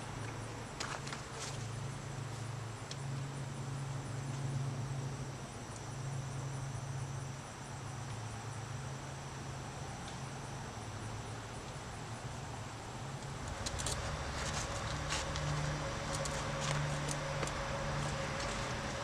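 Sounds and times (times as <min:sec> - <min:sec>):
crickets chirping: 0:00.0 - 0:19.0
steady low hum: 0:00.0 - 0:19.0.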